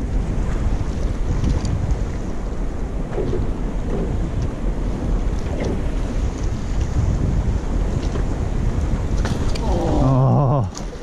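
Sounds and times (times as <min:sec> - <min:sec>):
choppy sea waves: 0:00.0 - 0:11.0
wind rumbling on microphone: 0:00.0 - 0:11.0.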